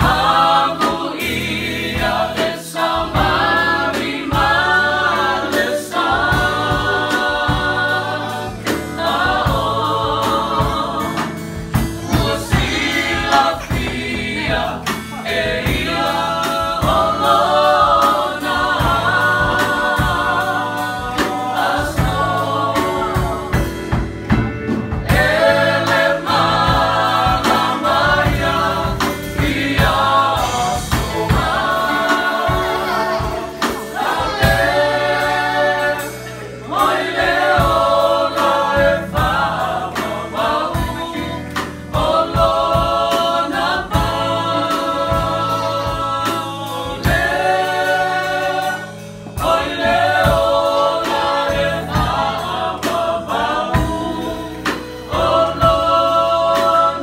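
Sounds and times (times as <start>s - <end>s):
group singing in harmony: 0.0s - 57.0s.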